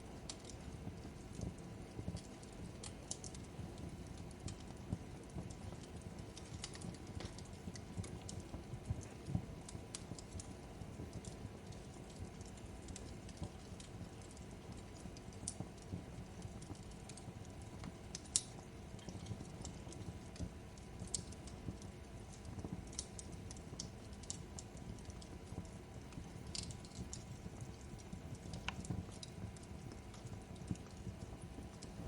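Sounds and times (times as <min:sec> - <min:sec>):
fireplace crackling: 0:00.0 - 0:32.0.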